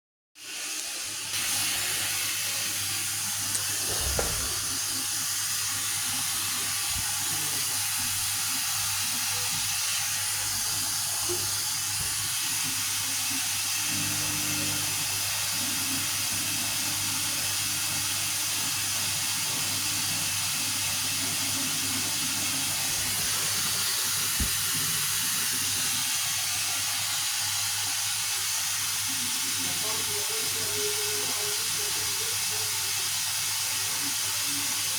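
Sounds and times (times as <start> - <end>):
washing machine water hiss: 0.4 - 34.9.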